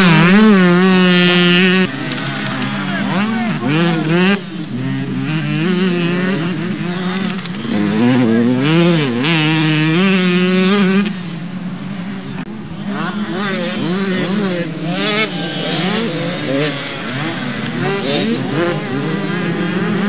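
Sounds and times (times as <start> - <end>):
motocross bike engines revving: 0.0 - 20.0.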